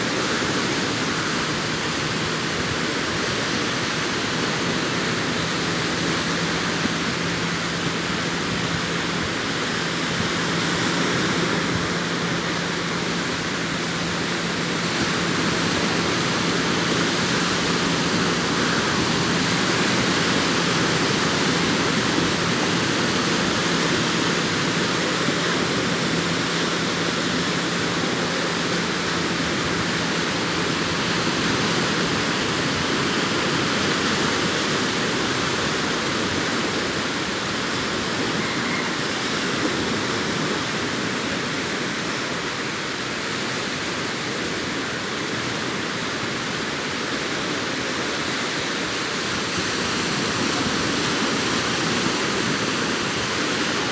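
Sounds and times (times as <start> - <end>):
waves breaking on beach: 0.0 - 53.9.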